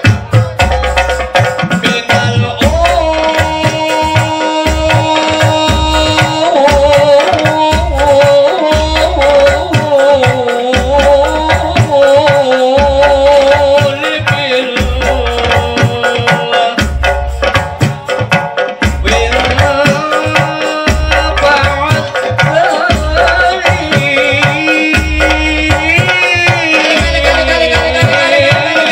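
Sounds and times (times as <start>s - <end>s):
frame drums playing: 0.0s - 28.9s
man singing through a pa: 0.0s - 28.9s.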